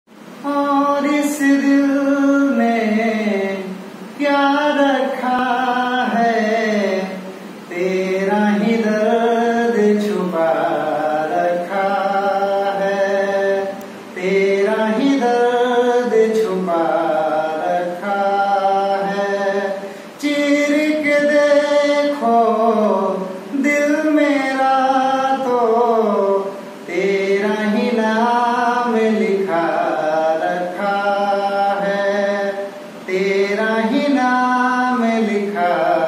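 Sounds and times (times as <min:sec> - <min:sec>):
man singing unaccompanied: 0:00.1 - 0:36.0.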